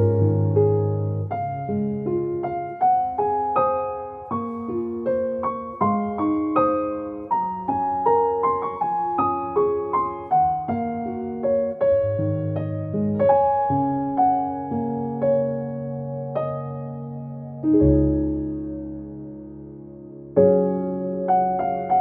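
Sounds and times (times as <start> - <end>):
slow solo piano music: 0.0 - 22.0.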